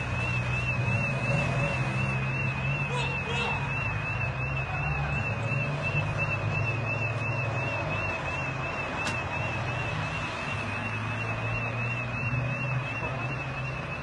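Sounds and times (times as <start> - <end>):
car passing: 0.0 - 14.0.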